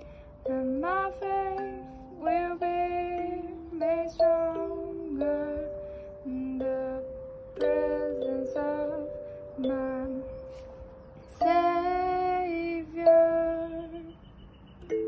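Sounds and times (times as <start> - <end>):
kalimba slow melody: 0.0 - 13.8.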